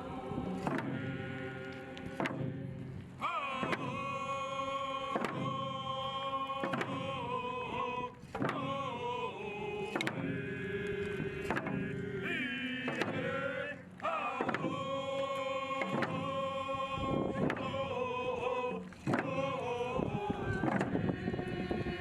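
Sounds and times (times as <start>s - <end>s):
voices singing long notes: 0.0s - 22.0s.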